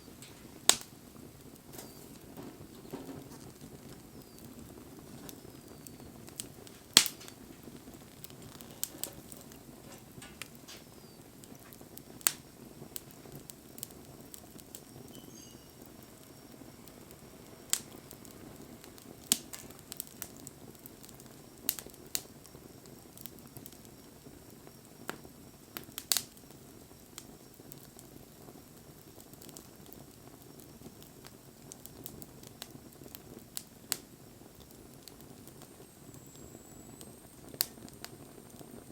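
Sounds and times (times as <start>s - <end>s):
campfire pops and crackles: 0.0s - 38.9s
rush of flame: 0.0s - 38.9s.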